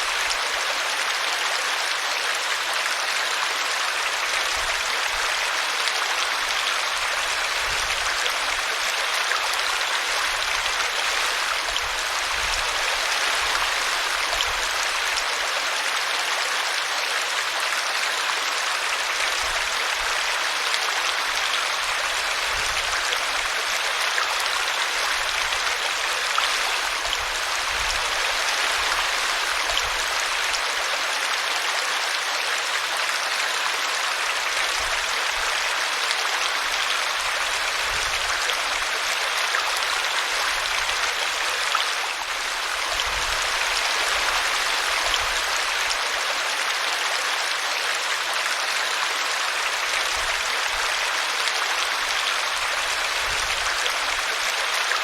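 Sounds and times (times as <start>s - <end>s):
brook running water: 0.0s - 55.0s.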